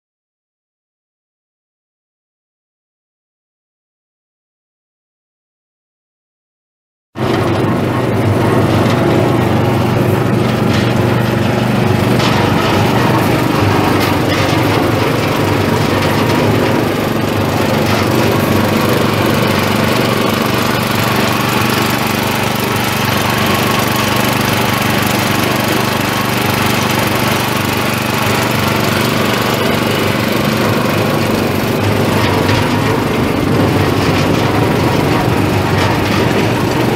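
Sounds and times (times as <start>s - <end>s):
mortar mixer motor humming: 7.2s - 36.9s.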